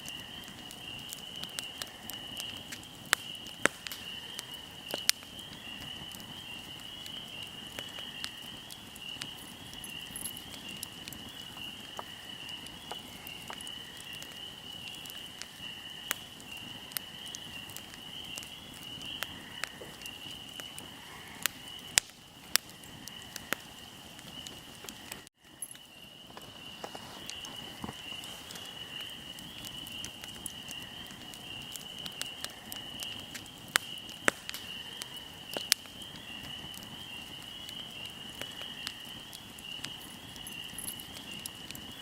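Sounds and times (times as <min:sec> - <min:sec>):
crickets chirping: 0:00.0 - 0:42.0
fire crackling and popping: 0:00.0 - 0:42.0.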